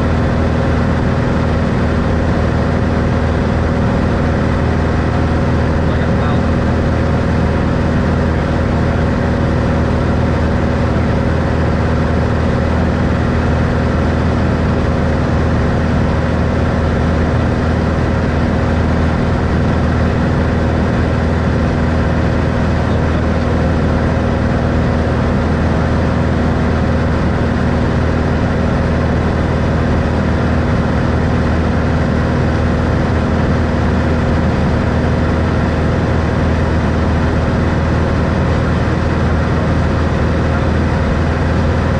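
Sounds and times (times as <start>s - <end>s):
aircraft engine drone: 0.0s - 41.9s.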